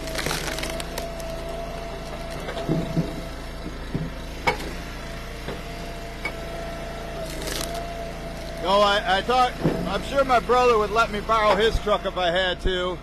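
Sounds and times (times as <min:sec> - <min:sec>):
wood splitter engine whining: 0:00.0 - 0:13.0.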